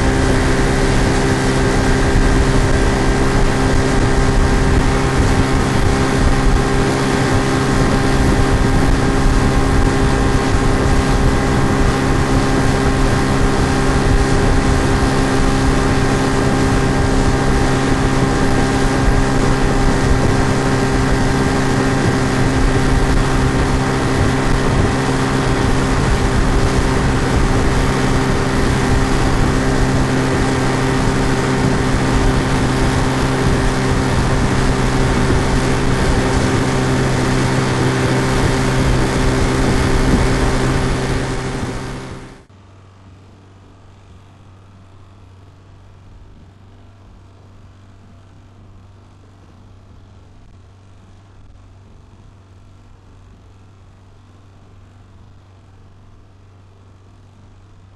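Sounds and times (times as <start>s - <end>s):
outboard motor running: 0.0s - 57.9s.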